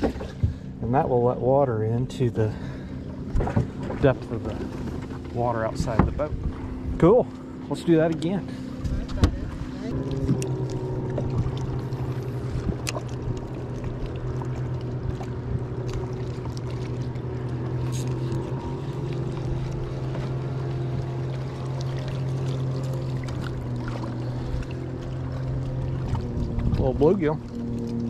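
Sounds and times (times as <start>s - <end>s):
electric pump humming: 2.6s - 28.0s.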